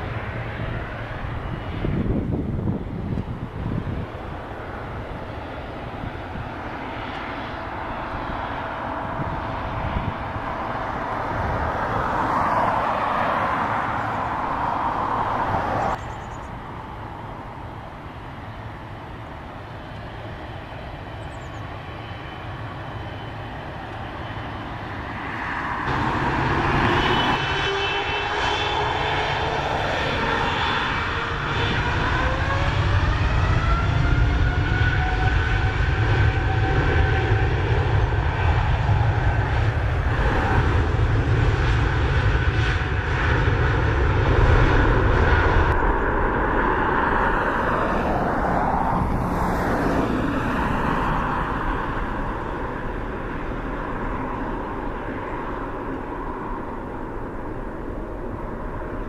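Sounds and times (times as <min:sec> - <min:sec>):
jet engine rising whine: 0:00.0 - 0:59.0
jet engines running: 0:00.0 - 0:59.0.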